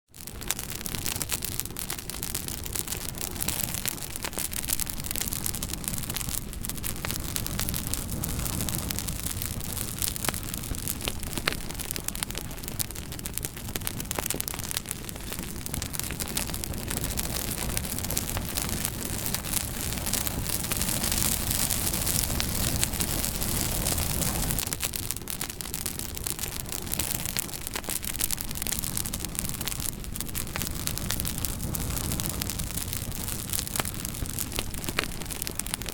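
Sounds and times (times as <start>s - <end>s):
campfire crackling and popping: 0.1s - 35.9s
low fire rumble: 0.1s - 35.9s.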